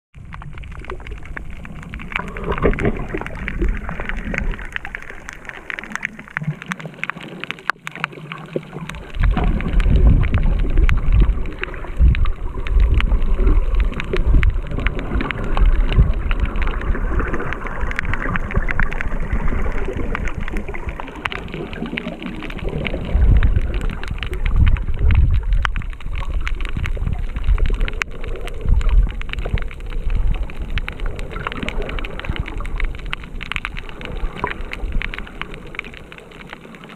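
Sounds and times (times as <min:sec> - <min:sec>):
dense crackle of clicks: 0:00.1 - 0:36.9
low underwater rumbling: 0:00.1 - 0:36.9
muffled underwater rush: 0:00.2 - 0:36.9.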